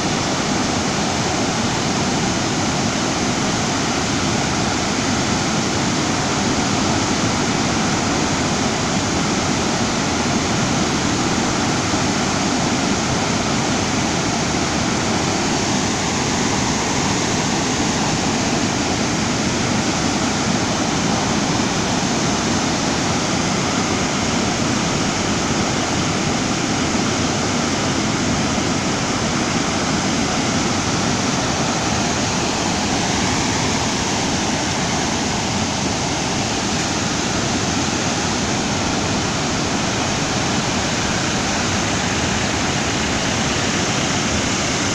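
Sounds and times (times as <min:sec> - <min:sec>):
loud rush of floodwater: 0:00.0 - 0:44.9.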